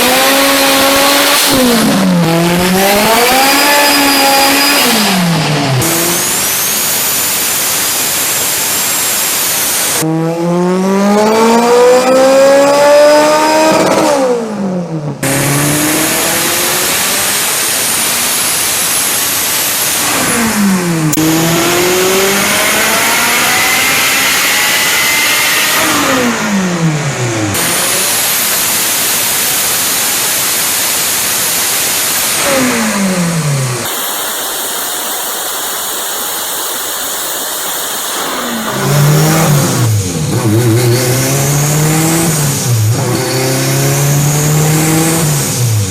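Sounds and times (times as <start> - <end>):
turbocharged car engine accelerating: 0.0 - 45.9.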